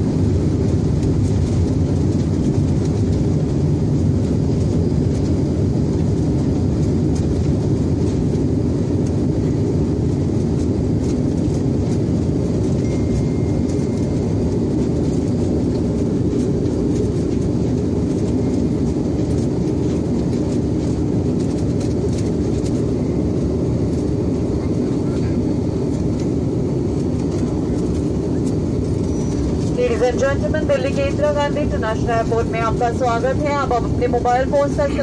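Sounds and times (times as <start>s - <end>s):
airplane cabin rumble: 0.0s - 35.0s.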